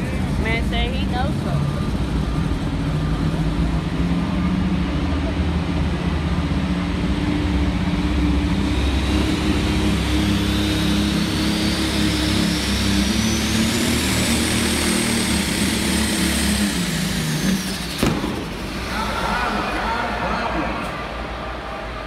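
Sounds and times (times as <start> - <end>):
big engines running: 0.0 - 22.0
high engine whine: 0.0 - 22.0.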